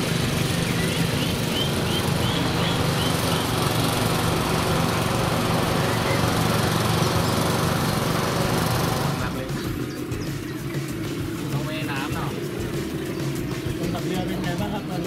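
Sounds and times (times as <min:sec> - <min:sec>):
small boat motor running: 0:00.0 - 0:15.0.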